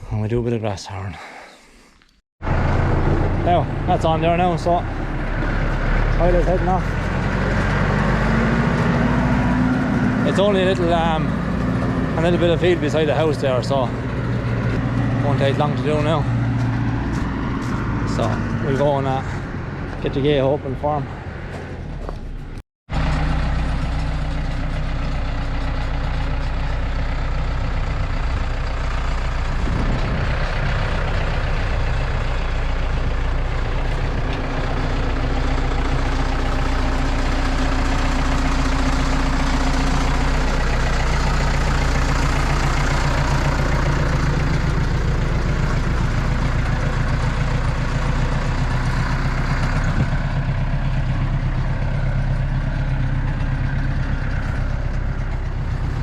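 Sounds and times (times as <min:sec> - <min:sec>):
tractor diesel engine running: 0:02.4 - 0:56.0.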